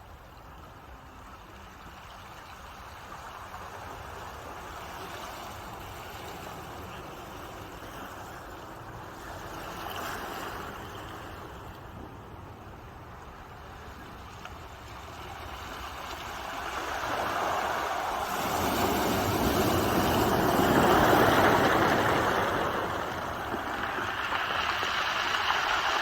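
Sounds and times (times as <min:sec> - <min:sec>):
ocean waves surf: 0:00.1 - 0:26.0.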